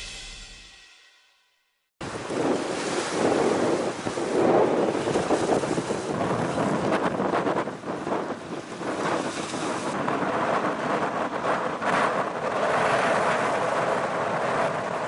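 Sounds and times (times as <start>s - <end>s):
wind buffeting microphone: 2.0s - 15.0s.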